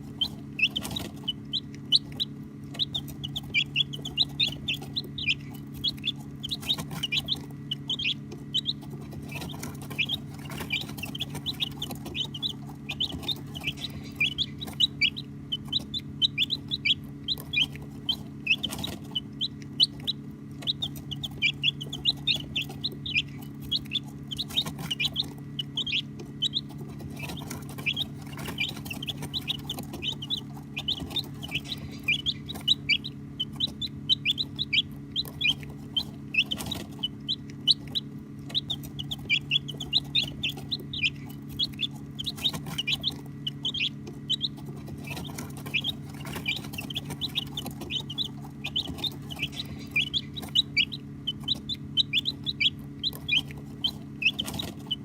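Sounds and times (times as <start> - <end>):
baby chicks peeping: 0.0 - 55.0
steady low hum: 0.0 - 55.0.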